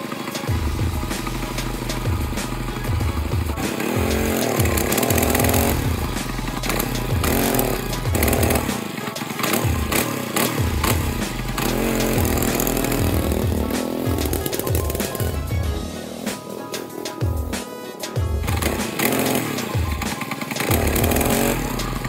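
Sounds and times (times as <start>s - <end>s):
small engine revving: 0.0s - 17.0s, 18.3s - 22.0s.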